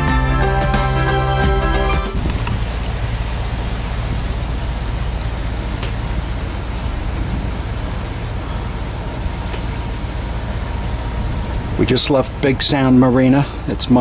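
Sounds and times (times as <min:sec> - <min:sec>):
boat diesel engine droning: 0:00.0 - 0:14.0
rush of wind and water: 0:02.0 - 0:14.0.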